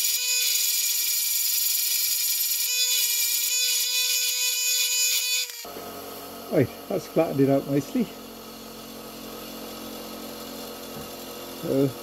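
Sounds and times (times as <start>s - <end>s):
bench grinder motor hum: 0.0s - 12.0s
drill bit grinding on stone: 0.0s - 12.0s.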